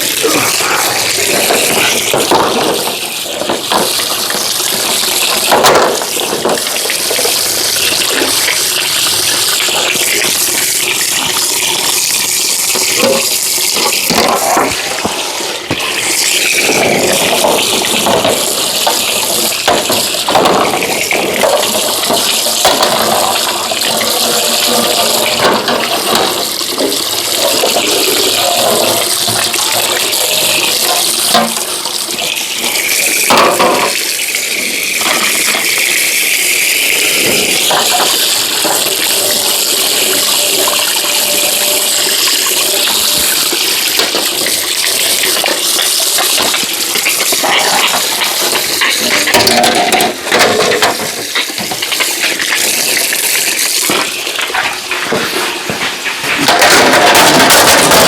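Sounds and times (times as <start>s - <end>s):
water running from a tap: 0.0s - 58.0s
water splashing over parts: 0.0s - 58.0s
knocks and clatter: 0.5s - 10.6s, 11.2s - 34.0s, 41.1s - 58.0s.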